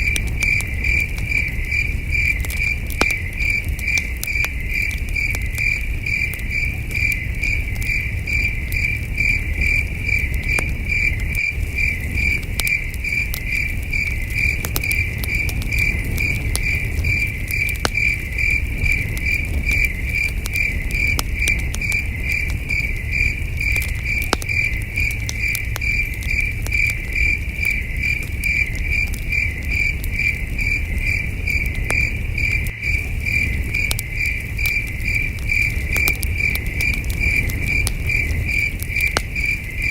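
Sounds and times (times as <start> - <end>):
campfire crackling: 0.0 - 39.9
crickets chirping: 0.0 - 39.9
low rumble: 5.9 - 39.9.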